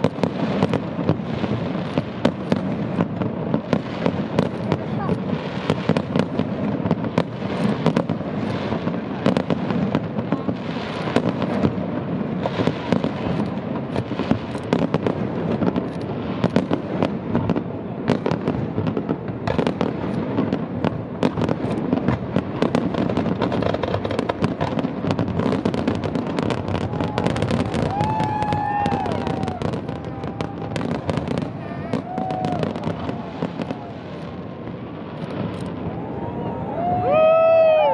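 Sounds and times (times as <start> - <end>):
fireworks bangs and crackle: 0.0 - 37.9.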